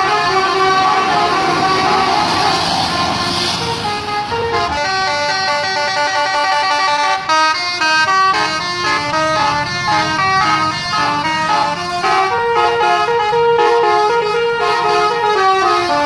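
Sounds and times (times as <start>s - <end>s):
multi-note bus horn tune: 0.0s - 16.0s.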